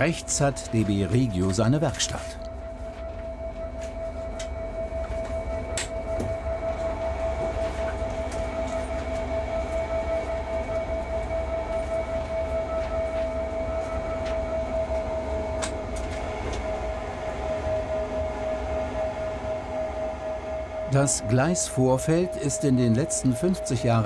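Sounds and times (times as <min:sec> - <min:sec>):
electric locomotive whine: 0:00.0 - 0:24.0
rumble of wheels on track: 0:00.0 - 0:24.0.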